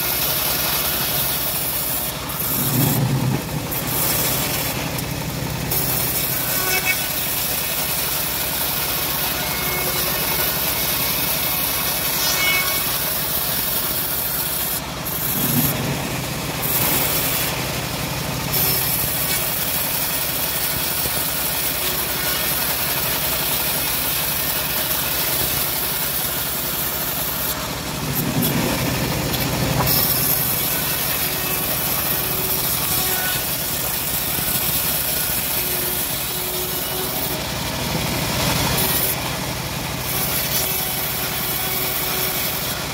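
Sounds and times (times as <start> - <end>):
band saw cutting wood: 0.0 - 42.9.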